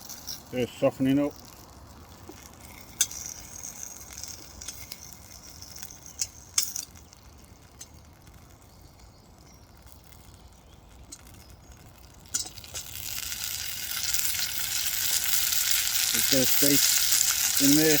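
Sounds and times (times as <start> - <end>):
potatoes sizzling in a pan: 0.0 - 18.0.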